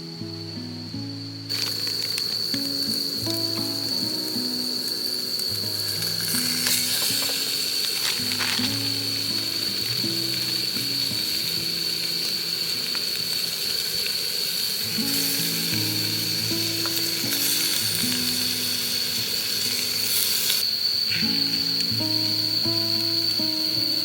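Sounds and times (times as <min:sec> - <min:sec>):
food sizzling in a pan: 0:00.1 - 0:24.0.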